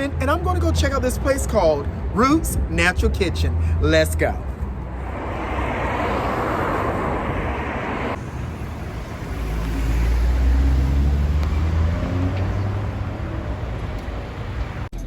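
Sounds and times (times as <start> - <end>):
passing vehicles rushing: 0.0 - 15.0
vehicle engine rumble: 0.0 - 15.0.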